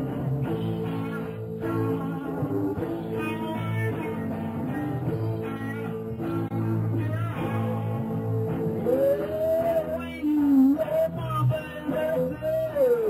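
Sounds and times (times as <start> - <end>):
electric guitar lines bending: 0.0 - 13.0
rock band playing live: 0.0 - 13.0.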